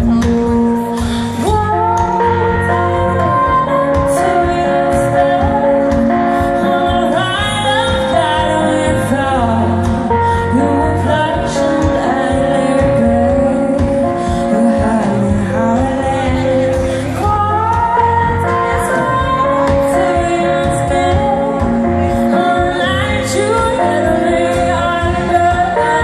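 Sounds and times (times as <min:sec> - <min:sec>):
electric guitar: 0:00.0 - 0:26.0
woman singing: 0:00.0 - 0:26.0.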